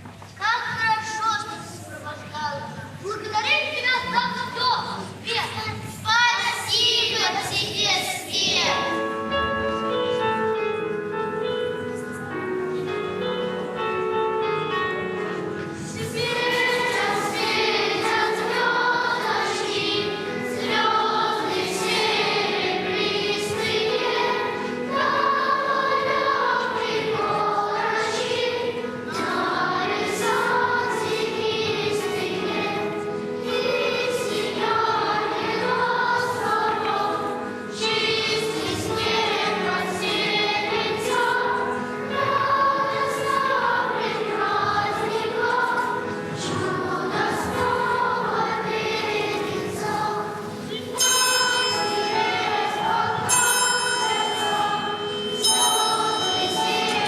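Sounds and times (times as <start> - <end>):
children's choir singing: 2.5 - 57.0.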